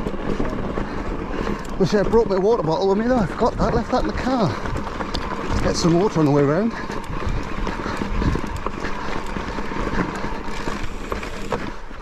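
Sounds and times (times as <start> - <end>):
bike rattling: 0.0 - 12.0
tyres crunching over stones: 0.0 - 12.0.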